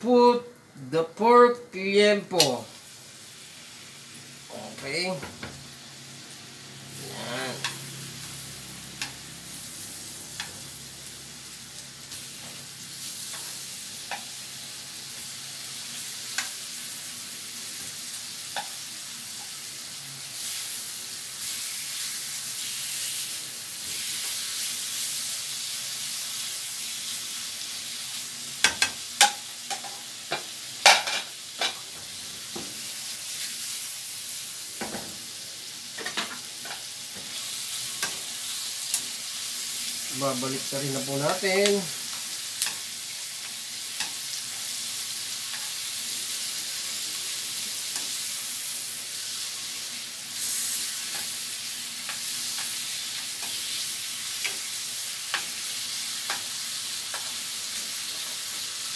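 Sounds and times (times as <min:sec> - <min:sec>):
meat sizzling in a frying pan: 0:00.0 - 0:58.9.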